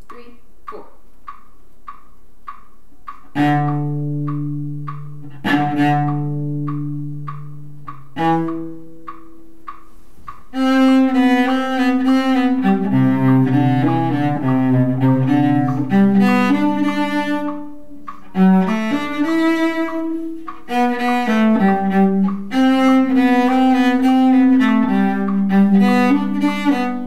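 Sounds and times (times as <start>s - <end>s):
steady ticking: 0.1s - 27.0s
bowed cello notes: 2.5s - 27.0s.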